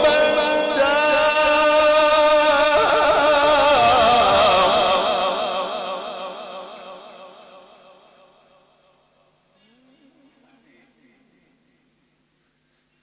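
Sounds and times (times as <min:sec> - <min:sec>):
man reciting with vibrato: 0:00.0 - 0:08.3, 0:09.6 - 0:11.8.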